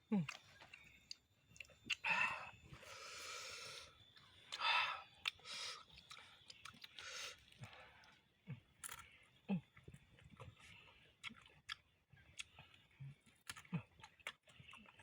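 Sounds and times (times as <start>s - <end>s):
person chewing crunchy vegetables: 0.1s - 15.0s.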